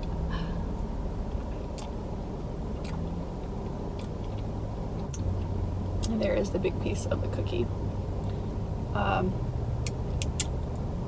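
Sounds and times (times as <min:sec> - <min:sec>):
car engine idling: 0:00.0 - 0:10.8
air conditioning running: 0:00.0 - 0:11.0.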